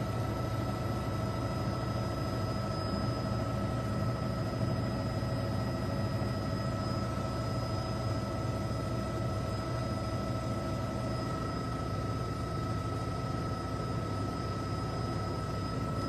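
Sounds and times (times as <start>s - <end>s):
helicopter turbine and rotor noise: 0.0s - 16.0s.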